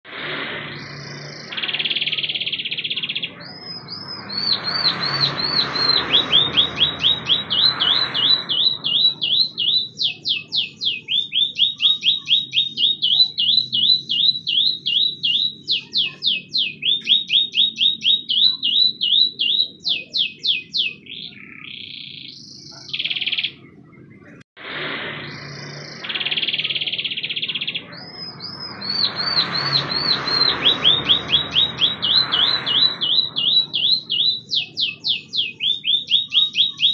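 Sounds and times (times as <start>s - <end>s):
canary singing trills: 0.1s - 36.9s.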